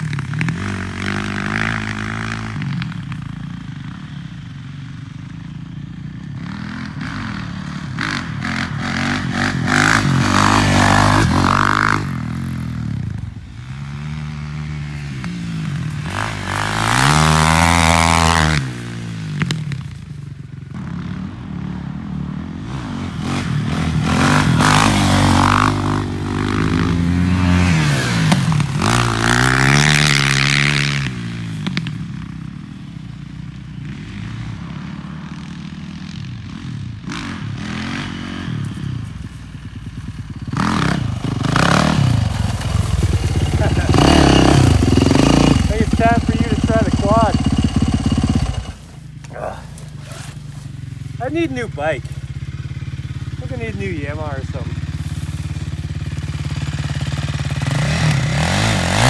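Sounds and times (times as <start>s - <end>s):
dirt bike engine revving: 0.0s - 32.6s, 33.2s - 59.0s.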